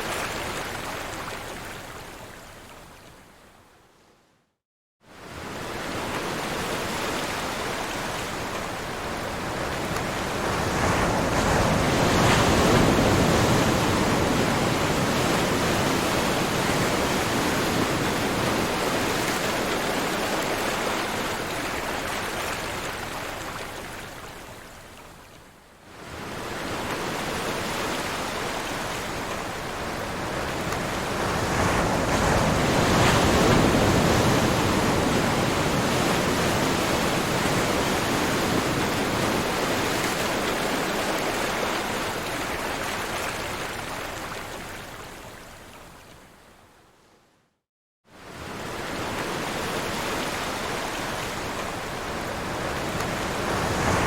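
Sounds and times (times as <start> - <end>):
ocean waves on shore: 0.0 - 3.2, 5.0 - 47.2, 48.1 - 54.0.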